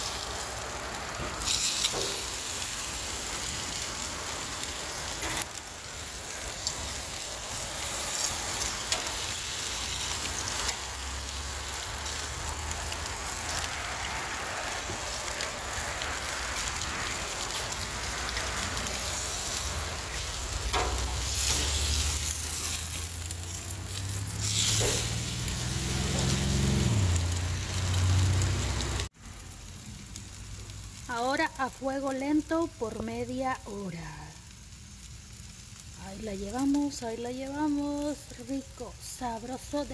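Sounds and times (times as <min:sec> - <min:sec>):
steak sizzling on a grill: 0:00.0 - 0:39.9.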